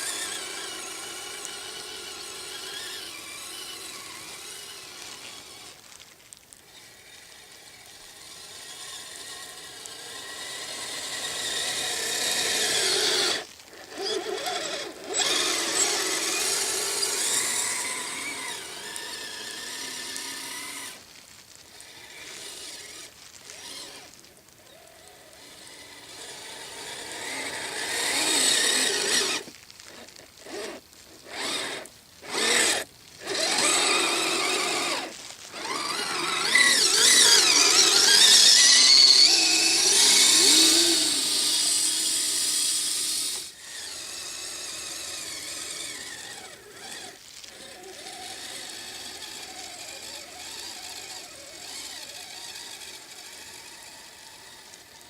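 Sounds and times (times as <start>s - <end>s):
electric motor whining: 0.0s - 5.8s, 6.7s - 21.0s, 21.7s - 55.0s.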